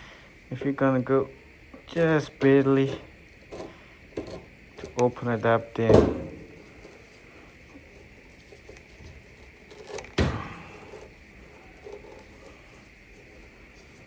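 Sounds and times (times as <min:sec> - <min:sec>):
tools handling parts: 0:01.8 - 0:14.0.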